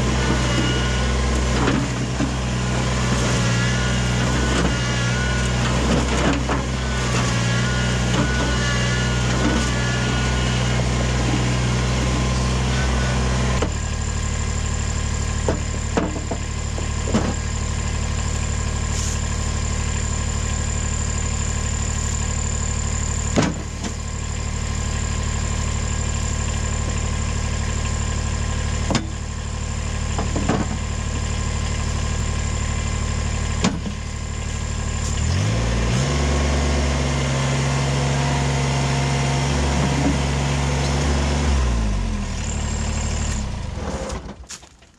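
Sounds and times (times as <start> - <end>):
diesel engine idling: 0.0 - 43.8.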